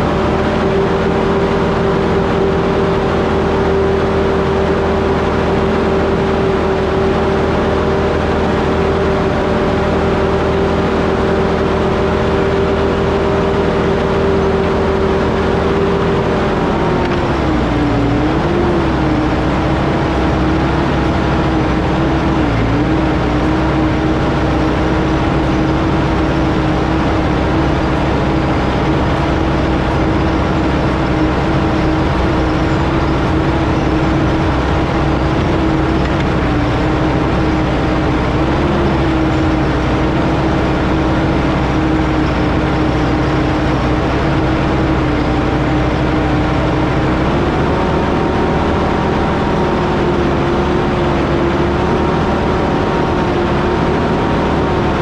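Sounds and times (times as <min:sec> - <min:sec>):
diesel engine running hard: 0:00.0 - 0:55.0.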